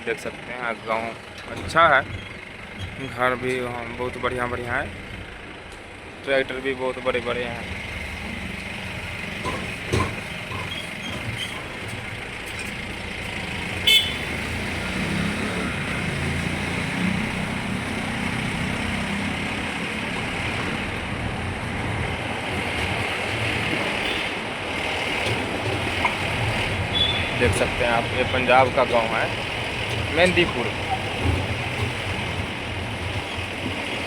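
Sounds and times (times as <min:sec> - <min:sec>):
road noise: 0:00.0 - 0:34.0
vehicle engine low rumble: 0:00.0 - 0:34.0.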